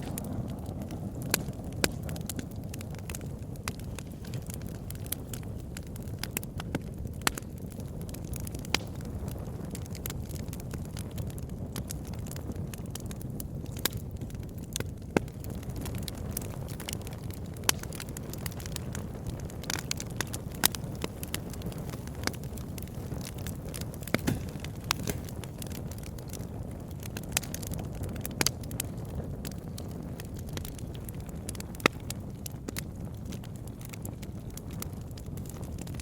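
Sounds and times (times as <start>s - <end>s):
campfire wood crackling and popping: 0.0s - 36.0s.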